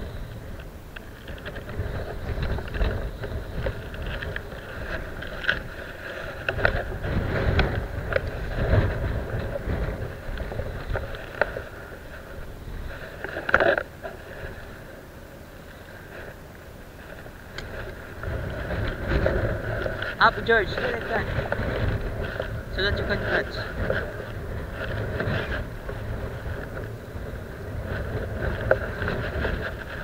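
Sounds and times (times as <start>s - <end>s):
rustling and clicks of handling: 0.0s - 14.7s, 15.7s - 30.0s
wind buffeting microphone: 0.0s - 30.0s.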